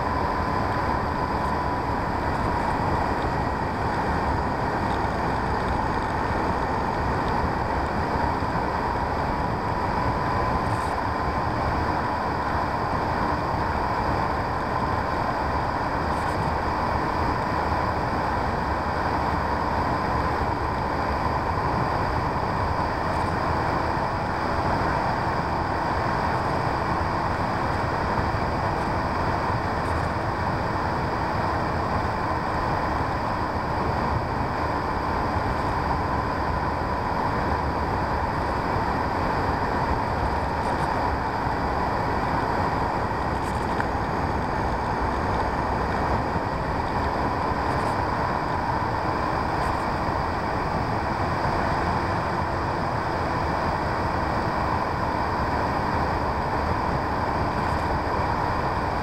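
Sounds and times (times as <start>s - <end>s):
model plane motor and propeller whine: 0.0s - 59.0s.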